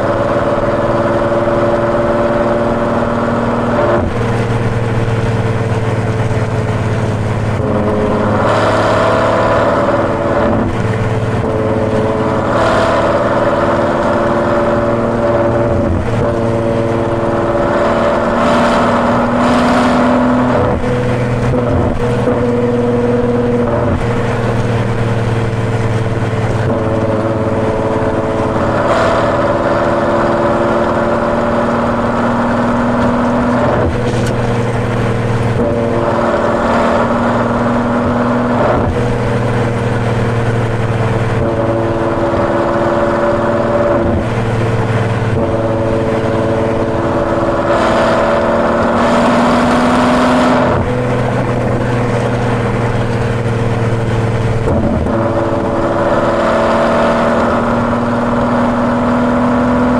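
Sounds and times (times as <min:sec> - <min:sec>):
road noise hiss: 0:00.0 - 0:56.9
car engine note: 0:00.0 - 0:59.9.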